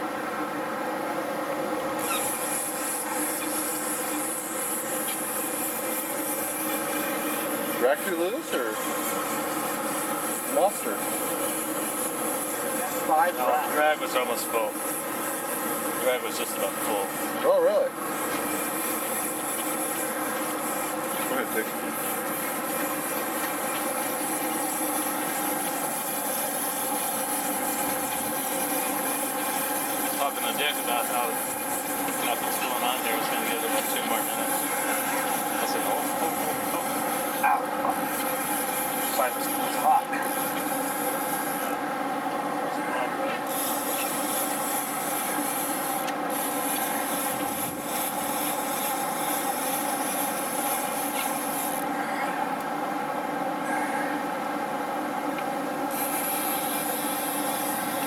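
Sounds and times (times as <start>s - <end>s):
boat engines droning: 1.2s - 58.0s
fishing reel whirring: 1.9s - 42.3s, 43.1s - 52.6s, 55.8s - 58.0s.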